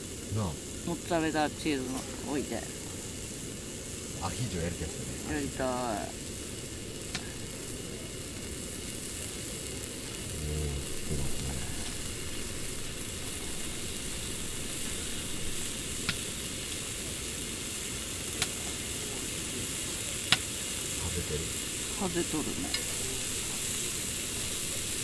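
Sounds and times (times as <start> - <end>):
meat sizzling on a griddle pan: 0.0 - 25.0.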